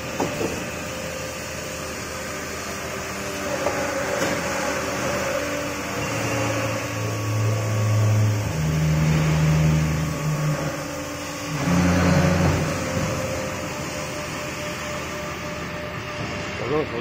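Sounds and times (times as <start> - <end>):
pipe bending machine hum: 0.0 - 17.0
low drone of bending drive: 2.4 - 16.6.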